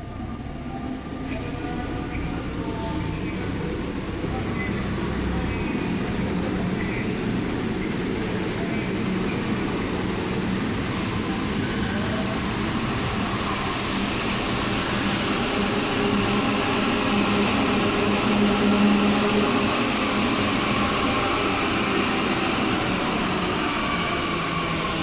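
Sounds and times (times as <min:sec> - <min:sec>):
train running hum and rushing: 0:00.0 - 0:25.0.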